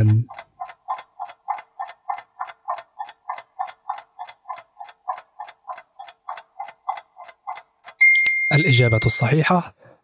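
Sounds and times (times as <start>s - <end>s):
clock ticking: 0.0s - 9.5s.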